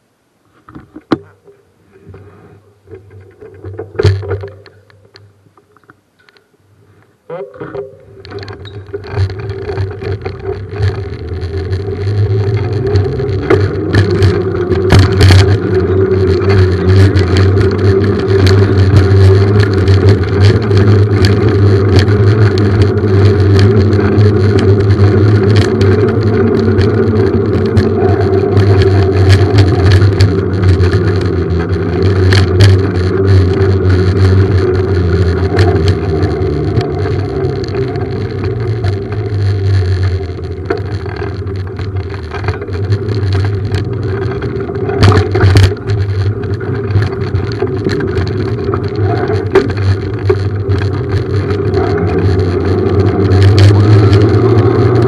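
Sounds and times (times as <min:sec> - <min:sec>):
clicks and rattles: 0:02.9 - 0:06.5, 0:07.3 - 0:55.0
small engine running: 0:09.0 - 0:55.0.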